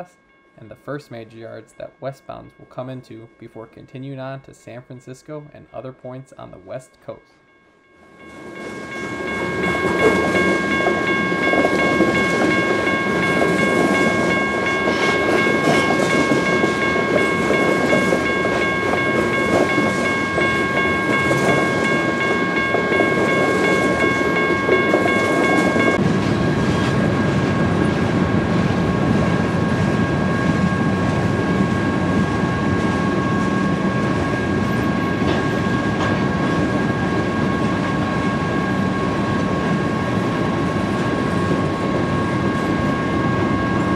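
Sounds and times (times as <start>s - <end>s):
train wheels rumbling on rail: 8.2s - 43.9s.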